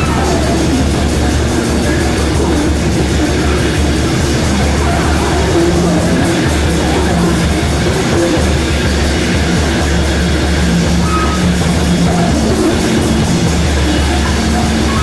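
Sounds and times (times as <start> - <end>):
high held tone: 0.0 - 15.0
low drone: 0.0 - 15.0
noisy guitars and drums: 0.0 - 15.0.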